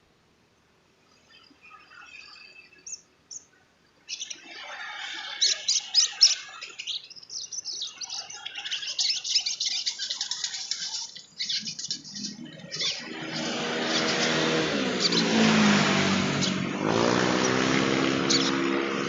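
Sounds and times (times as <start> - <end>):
sunbird chirping and twittering: 1.1 - 19.0.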